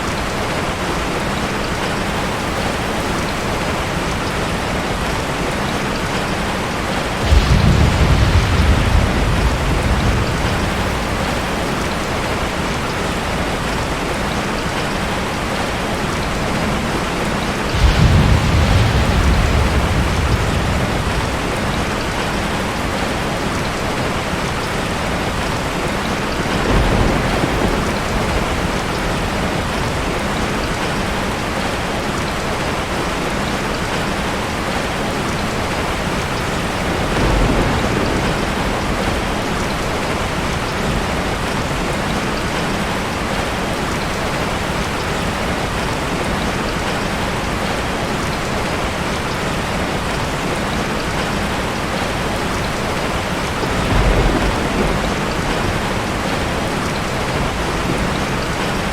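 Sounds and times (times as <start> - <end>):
steady rain falling: 0.0 - 58.9
thunder rumbling: 2.1 - 14.4, 15.0 - 31.7, 35.5 - 47.7, 51.1 - 58.9.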